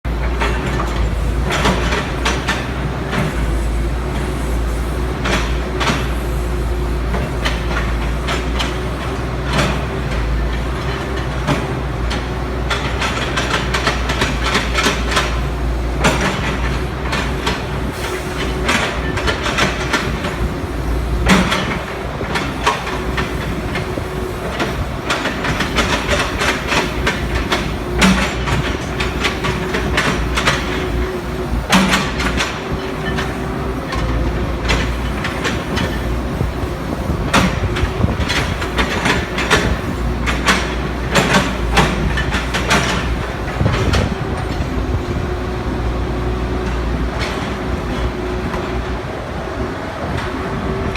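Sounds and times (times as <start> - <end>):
excavator diesel engine running: 0.0 - 50.9
metal clanks and knocks: 0.2 - 45.4.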